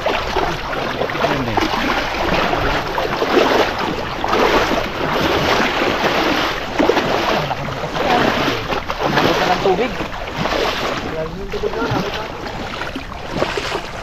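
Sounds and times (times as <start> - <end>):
water rushing around boat: 0.0 - 14.0.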